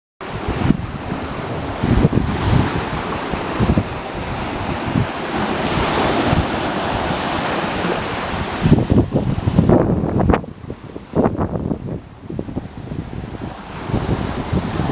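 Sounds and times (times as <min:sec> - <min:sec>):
waves washing on a lake: 0:00.2 - 0:14.9
wind buffeting microphone: 0:00.2 - 0:14.9.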